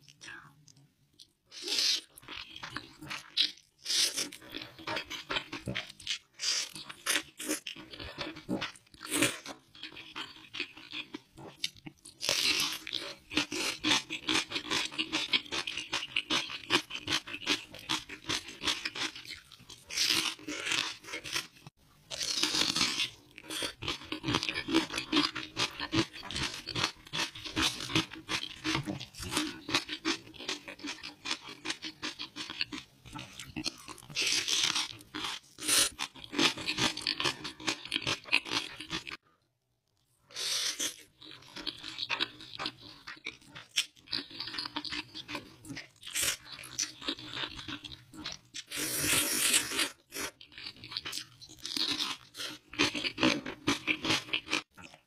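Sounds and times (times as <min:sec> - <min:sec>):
crunching and chewing: 0:01.2 - 0:39.2, 0:39.9 - 0:55.0.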